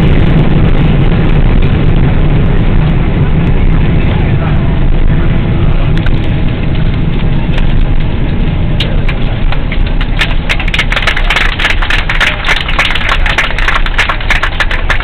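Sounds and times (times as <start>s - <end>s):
engine and wheels rumble: 0.0s - 15.0s
rapid crackling clicks and rattling: 0.0s - 15.0s.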